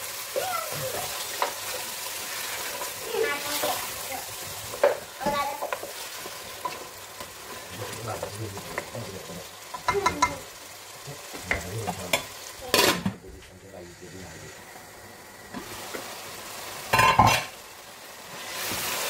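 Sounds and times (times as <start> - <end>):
fish sizzling in a pot: 0.0 - 19.0.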